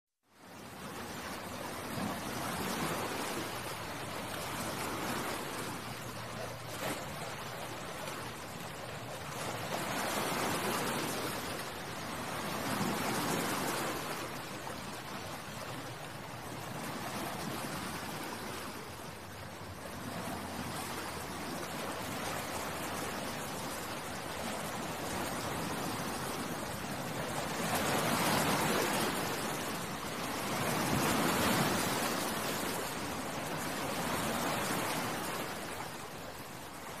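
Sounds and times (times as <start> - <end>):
sea waves washing ashore: 0.3 - 37.0.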